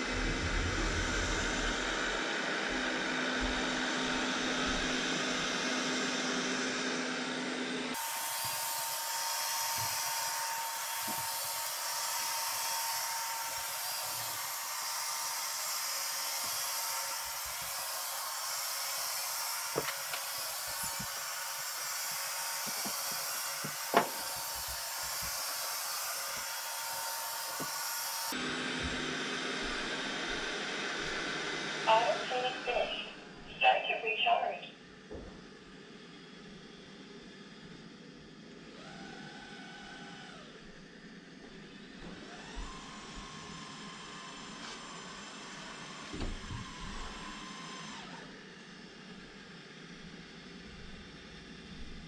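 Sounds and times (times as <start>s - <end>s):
robot vacuum running: 0.0s - 34.6s, 38.6s - 52.0s.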